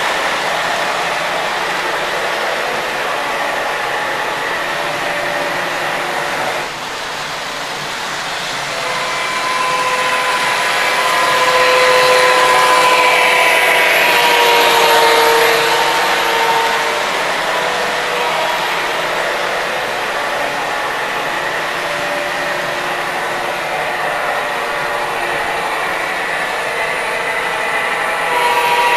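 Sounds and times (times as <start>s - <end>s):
model train rolling on track: 0.0s - 28.9s.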